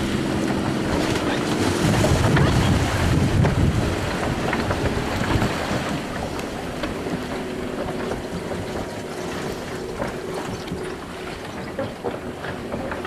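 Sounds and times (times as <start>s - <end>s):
powerboat engine drone: 0.0s - 13.0s
rush of boat wake: 0.0s - 13.0s.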